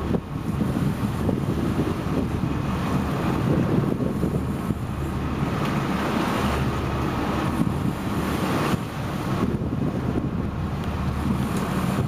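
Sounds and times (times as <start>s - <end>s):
boat running: 0.0s - 12.0s
sea wash: 0.0s - 12.0s
wind buffeting the microphone: 0.0s - 12.0s.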